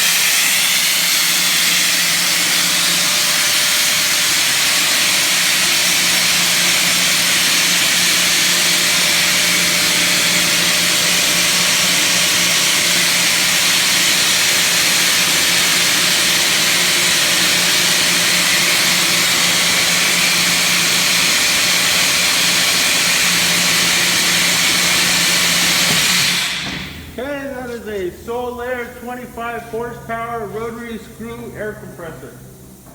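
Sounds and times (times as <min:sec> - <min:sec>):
air compressor running: 0:00.0 - 0:31.9.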